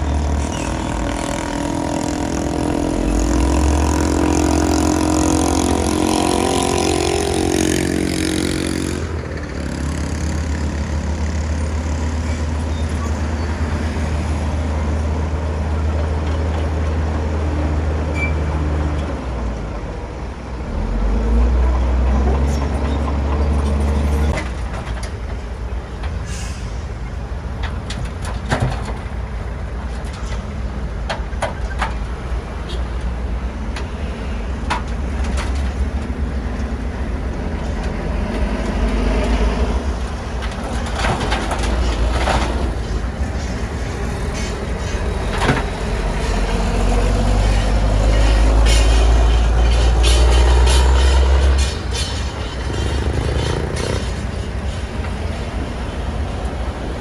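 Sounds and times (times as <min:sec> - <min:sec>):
bulldozer diesel engine running: 0:00.0 - 0:26.2, 0:27.0 - 0:57.0.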